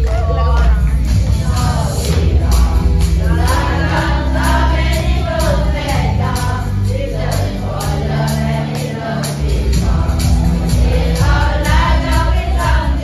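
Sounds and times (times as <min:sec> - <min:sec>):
backing track with heavy bass: 0:00.0 - 0:13.0
children singing: 0:00.0 - 0:13.0.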